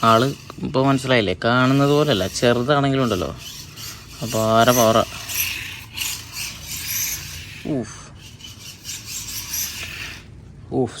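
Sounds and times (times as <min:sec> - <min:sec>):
rc car tyres skidding: 0:00.0 - 0:10.3.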